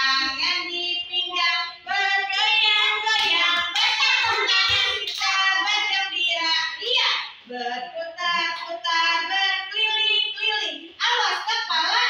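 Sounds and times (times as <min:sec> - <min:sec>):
young children singing: 0:00.0 - 0:10.8.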